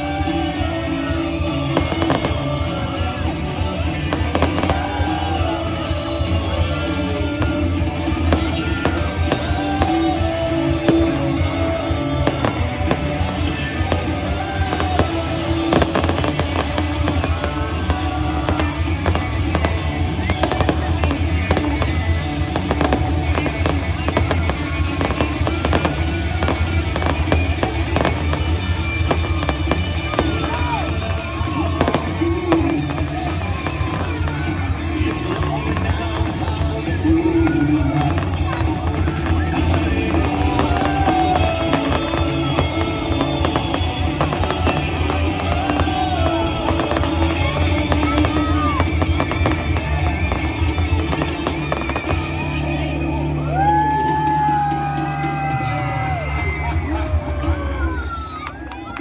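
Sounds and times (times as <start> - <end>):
fireworks bangs and pops: 0.0 - 59.0
loud music with bass beat: 0.0 - 59.0.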